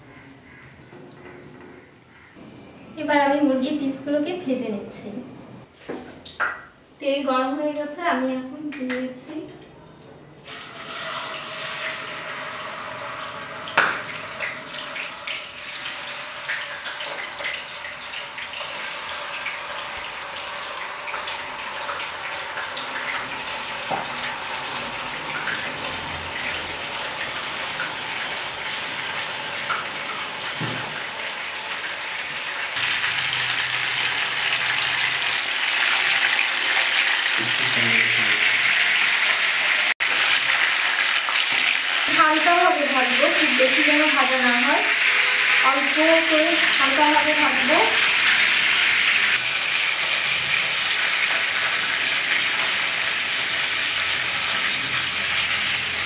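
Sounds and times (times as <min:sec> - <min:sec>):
chicken sizzling in hot oil: 0:10.4 - 0:56.0.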